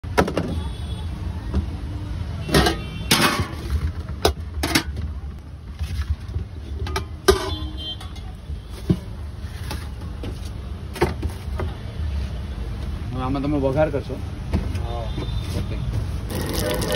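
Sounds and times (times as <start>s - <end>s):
street traffic rumble: 0.0s - 16.9s.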